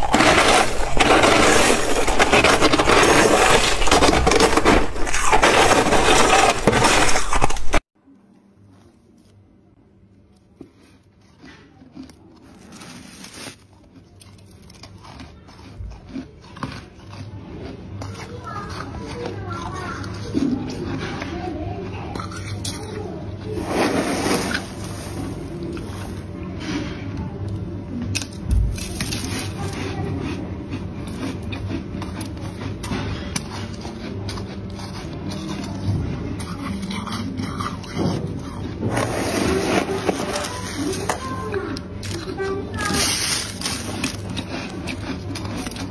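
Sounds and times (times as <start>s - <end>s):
frost crunching in plastic bag: 0.0s - 7.9s, 11.4s - 21.0s, 22.2s - 26.4s, 28.2s - 35.8s, 36.4s - 45.9s.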